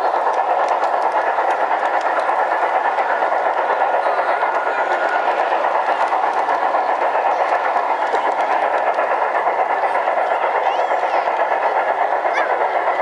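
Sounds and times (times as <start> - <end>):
model train wheels clattering: 0.0 - 13.0.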